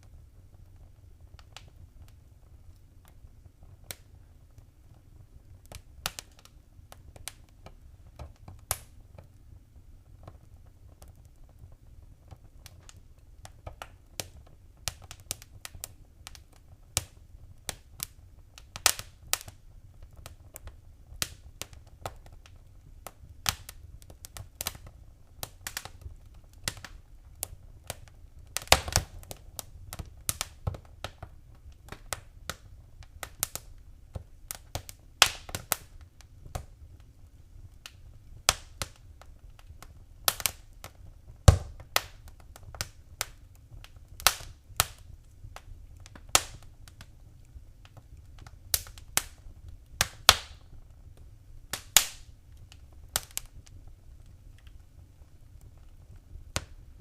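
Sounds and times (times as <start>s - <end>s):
low fire rumble: 0.0s - 57.0s
wood fire crackling and popping: 0.0s - 57.0s.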